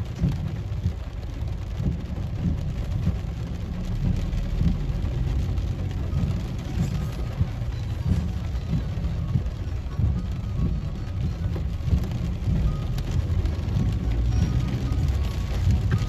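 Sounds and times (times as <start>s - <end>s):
engine and tyre rumble: 0.0s - 16.0s
rain on windscreen: 0.0s - 16.0s.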